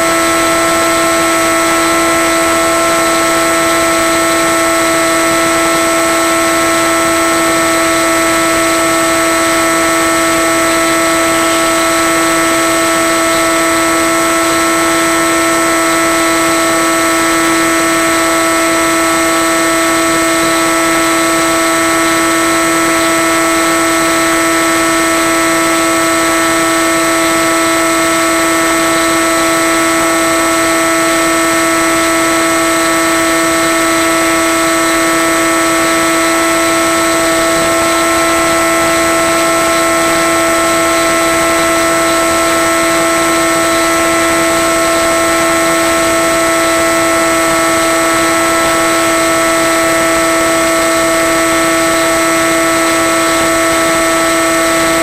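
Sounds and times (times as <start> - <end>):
electric motor and propeller drone: 0.0 - 55.0.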